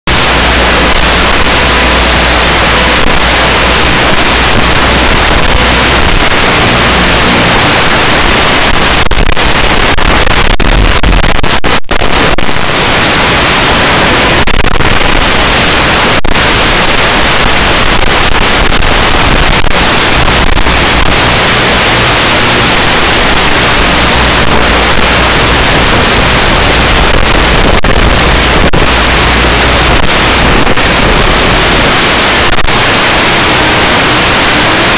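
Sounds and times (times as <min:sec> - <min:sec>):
static hiss: 0:00.0 - 0:34.9.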